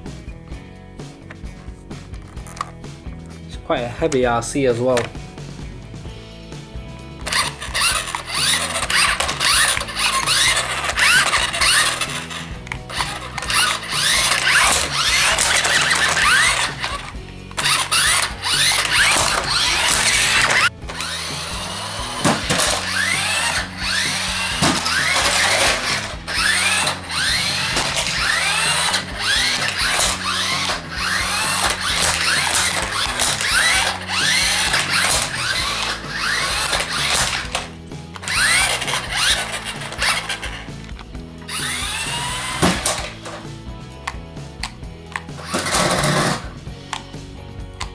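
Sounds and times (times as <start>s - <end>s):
music: 0.0s - 47.9s
toy car electric motors whining: 7.2s - 43.5s, 44.6s - 47.0s.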